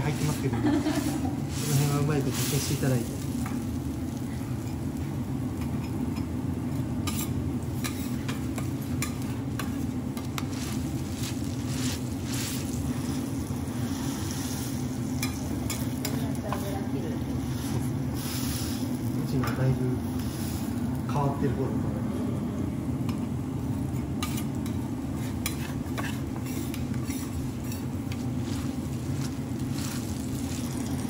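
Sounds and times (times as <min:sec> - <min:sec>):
oil sizzling on griddle: 0:00.0 - 0:21.5, 0:23.1 - 0:31.0.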